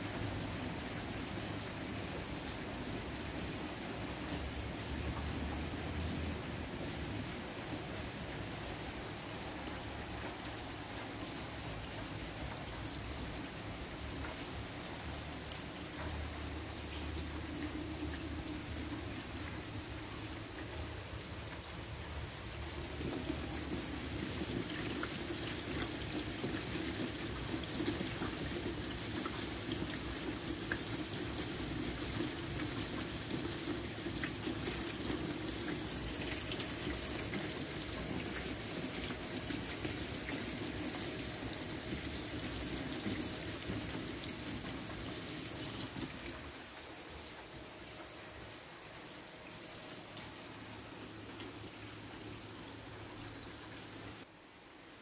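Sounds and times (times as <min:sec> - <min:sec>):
water pouring and splashing: 0:00.0 - 0:54.3
steady rain: 0:00.0 - 0:55.0.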